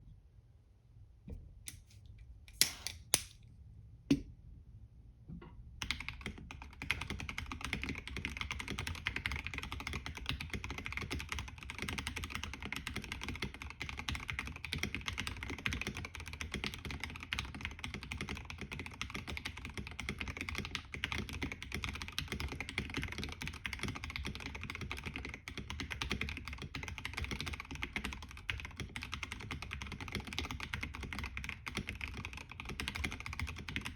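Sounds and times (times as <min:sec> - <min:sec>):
fast typing on mechanical keyboard: 0:05.8 - 0:33.9.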